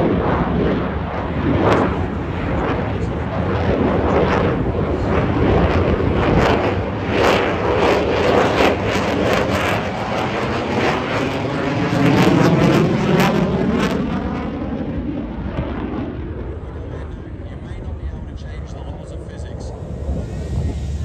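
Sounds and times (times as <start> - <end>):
jet engine roaring with crackles: 0.0 - 21.0.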